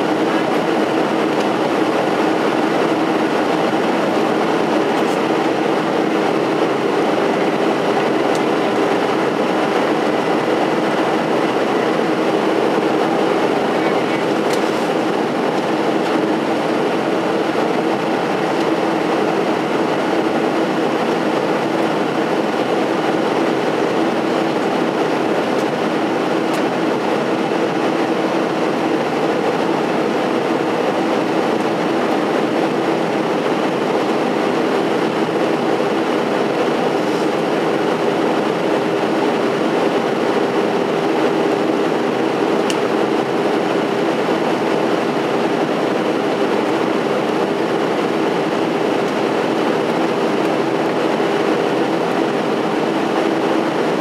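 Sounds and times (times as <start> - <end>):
jet engines and airflow rushing: 0.0 - 54.0.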